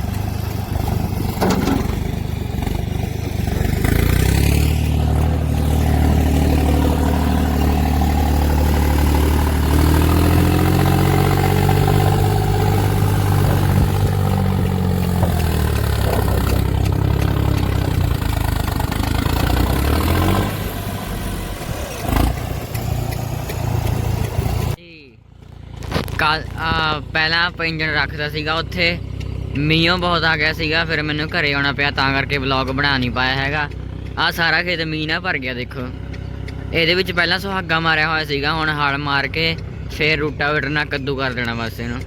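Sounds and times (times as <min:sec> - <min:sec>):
tractor engine under load: 0:00.0 - 0:42.0.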